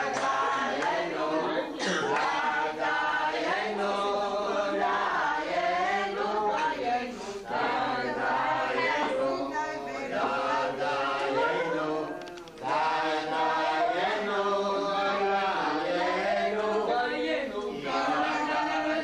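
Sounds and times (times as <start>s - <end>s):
voices chanting together: 0.0s - 19.0s.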